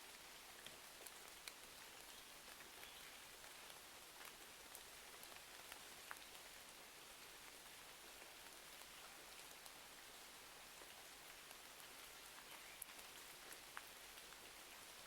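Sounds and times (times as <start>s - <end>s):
rain hiss: 0.0s - 15.0s
wood fire crackles: 0.0s - 15.0s.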